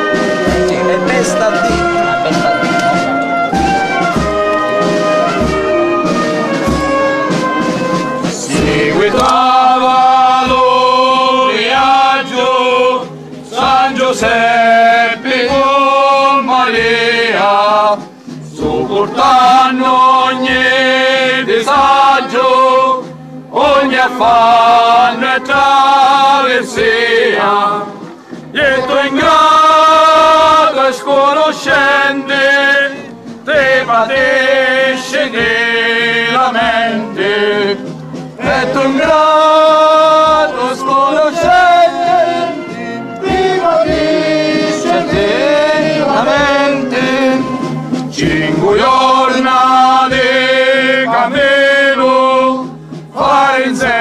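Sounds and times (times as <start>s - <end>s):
brass band playing: 0.0s - 54.0s
men singing a chant: 8.3s - 37.8s, 38.4s - 54.0s.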